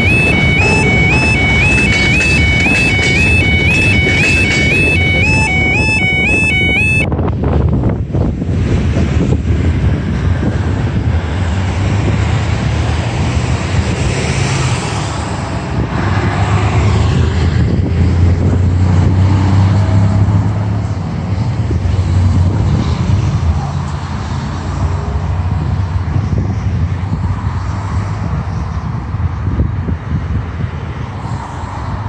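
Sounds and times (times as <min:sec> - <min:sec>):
cars and trucks driving past: 0:00.0 - 0:32.0.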